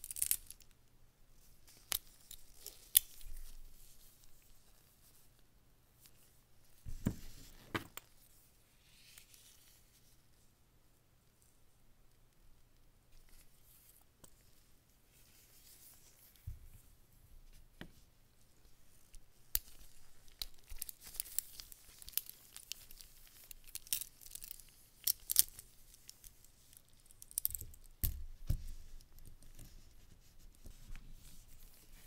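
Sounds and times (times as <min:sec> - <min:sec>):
gloves rustling: 0:01.4 - 0:10.4, 0:13.1 - 0:16.9, 0:18.4 - 0:32.0.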